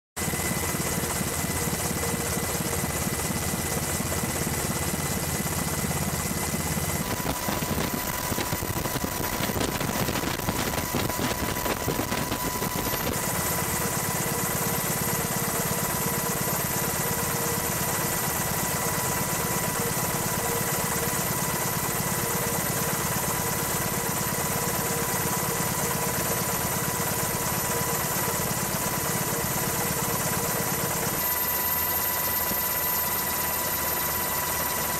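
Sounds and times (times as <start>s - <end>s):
helicopter engine and rotor: 0.2s - 34.9s.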